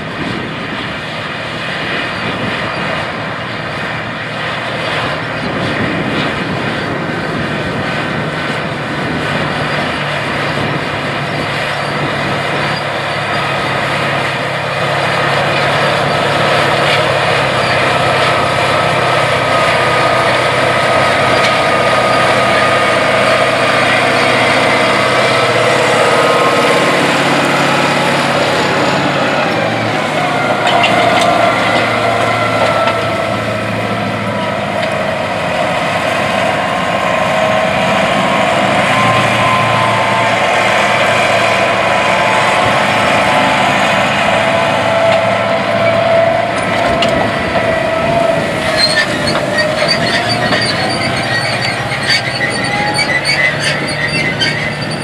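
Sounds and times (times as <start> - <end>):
high engine whine: 0.0 - 55.0
tractor diesel engine under load: 0.0 - 55.0.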